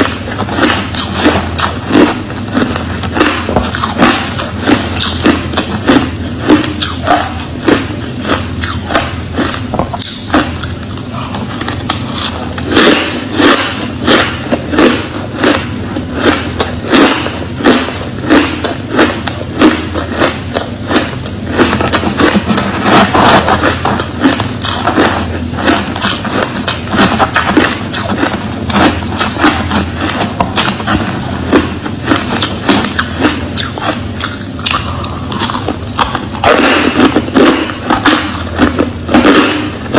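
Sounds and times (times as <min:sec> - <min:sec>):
ice being chewed and crunched: 0:00.0 - 0:39.9
low hum: 0:00.0 - 0:39.9.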